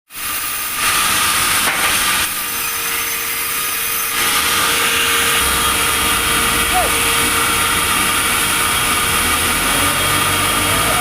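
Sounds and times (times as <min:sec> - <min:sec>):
saw cutting through wood: 0:00.1 - 0:11.0.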